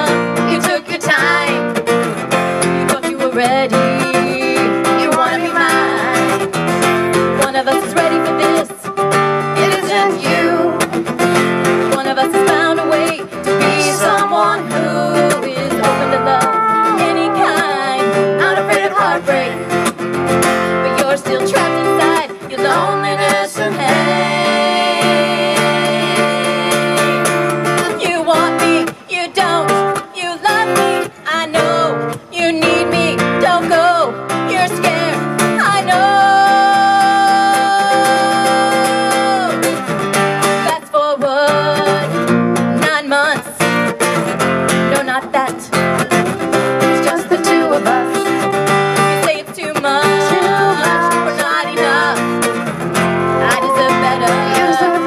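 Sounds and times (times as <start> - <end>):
woman singing: 0.0 - 1.8, 2.6 - 11.1, 11.7 - 19.8, 20.5 - 39.8, 40.6 - 43.8, 44.8 - 52.3, 53.3 - 55.0
acoustic guitar strummed: 0.0 - 55.0.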